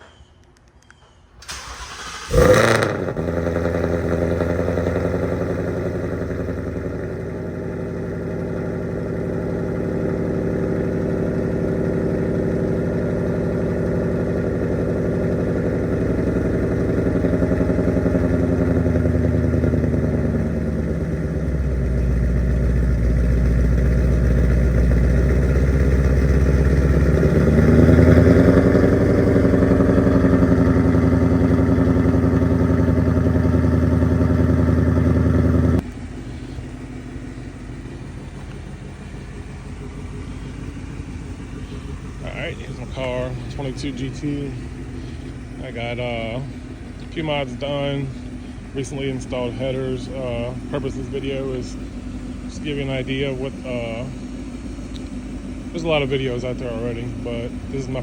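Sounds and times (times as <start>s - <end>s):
car engine starting and idling: 1.0s - 58.0s.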